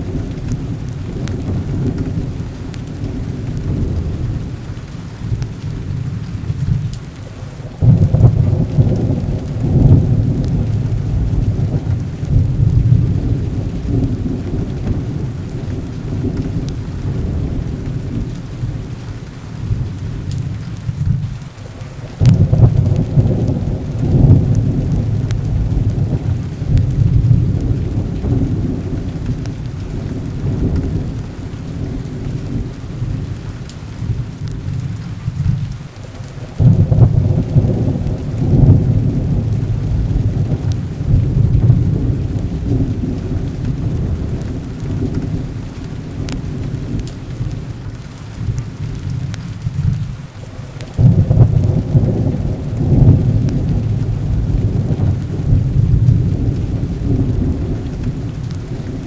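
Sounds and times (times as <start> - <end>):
rolling thunder: 0.0 - 7.2, 7.8 - 59.0
heavy rain: 0.0 - 59.0.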